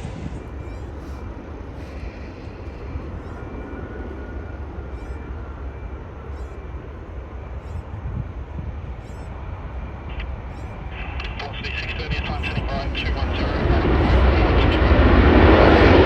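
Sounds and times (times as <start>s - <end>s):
distant jet engines running: 0.0s - 16.0s
wind buffeting microphone: 0.0s - 16.0s.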